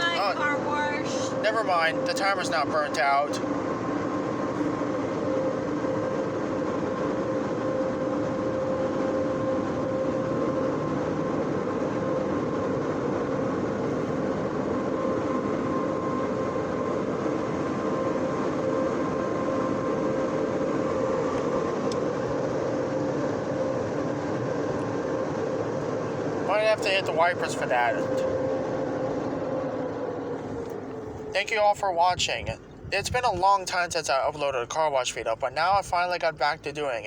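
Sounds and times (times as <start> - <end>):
car wash blowers rushing air: 0.0 - 37.0.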